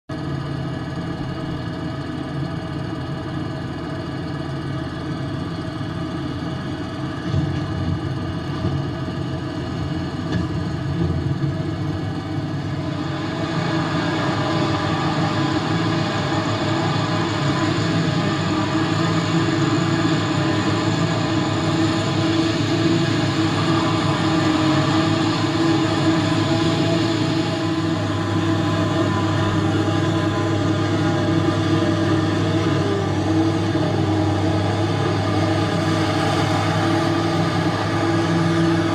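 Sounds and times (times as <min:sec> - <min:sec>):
diesel tractor engine running: 0:00.1 - 0:38.9.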